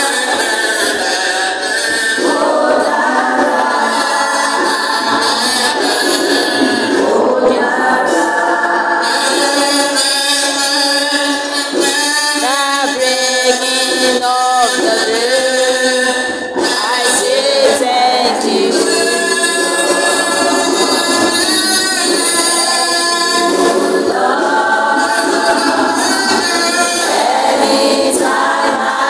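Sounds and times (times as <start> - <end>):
comb kazoo lead melody: 0.0 - 29.0
vocal group singing in harmony: 0.0 - 29.0.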